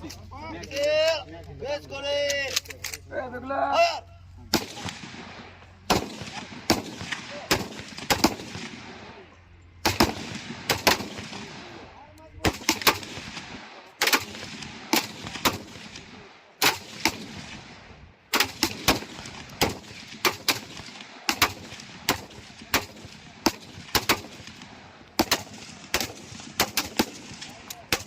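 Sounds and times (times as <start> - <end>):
rifle shots with echo: 4.5 - 28.0.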